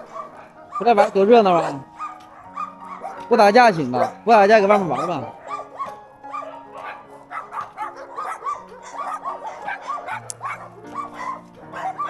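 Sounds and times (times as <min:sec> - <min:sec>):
background music with held notes: 0:00.0 - 0:12.0
dogs barking and yipping: 0:00.0 - 0:12.0.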